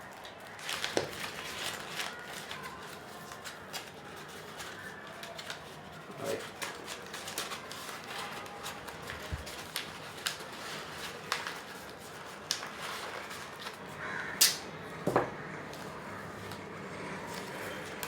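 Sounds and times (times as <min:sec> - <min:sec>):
paper crinkling: 0:00.0 - 0:14.9, 0:15.6 - 0:18.0.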